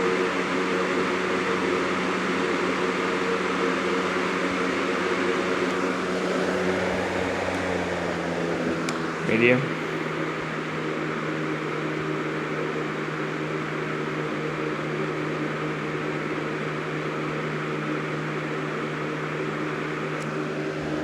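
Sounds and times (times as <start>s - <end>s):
box fan running: 0.0s - 21.0s.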